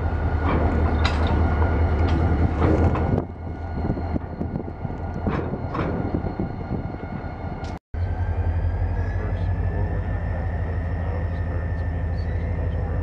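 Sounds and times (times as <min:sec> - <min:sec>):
railcars rumbling on track: 0:00.0 - 0:13.0.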